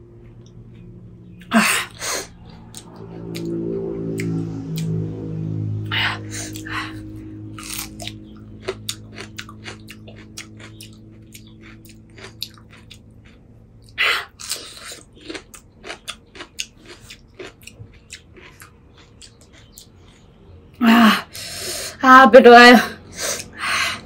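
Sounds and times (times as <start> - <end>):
person chewing and crunching: 0.3 - 5.2, 6.2 - 20.8.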